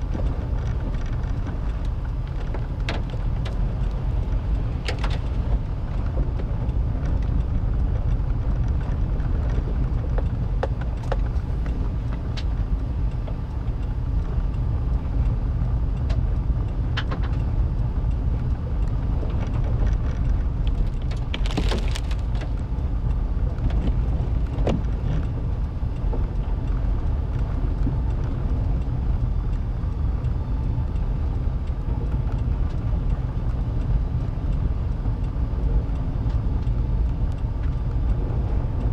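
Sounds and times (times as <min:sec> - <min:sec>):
engine and tyre rumble: 0:00.0 - 0:38.9.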